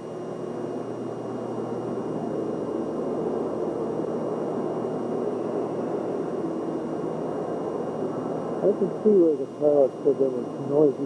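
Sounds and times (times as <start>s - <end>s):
faint high whine: 0.0s - 11.0s
steady rushing hangar noise: 0.8s - 11.0s.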